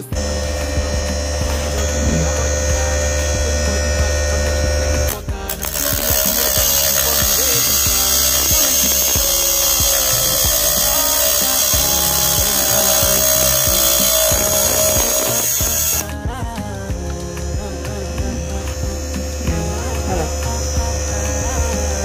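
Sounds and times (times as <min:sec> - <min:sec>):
abrasive disc grinding metal: 0:00.0 - 0:22.0
background music: 0:00.0 - 0:22.0
electric motor whine: 0:00.0 - 0:22.0.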